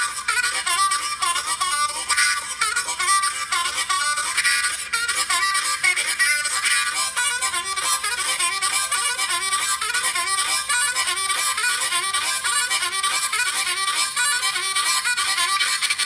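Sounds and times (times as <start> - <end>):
solo harmonica playing: 0.0 - 16.0.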